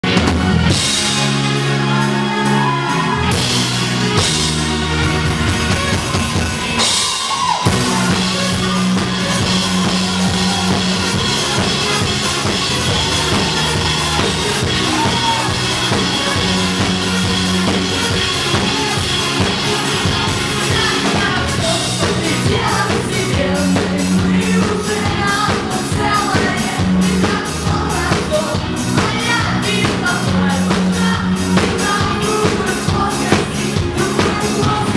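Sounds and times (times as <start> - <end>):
bass line: 0.0 - 34.9
drum kit beat: 0.0 - 34.9
rock band playing live: 0.0 - 34.9
person singing: 1.1 - 5.0, 6.2 - 34.9.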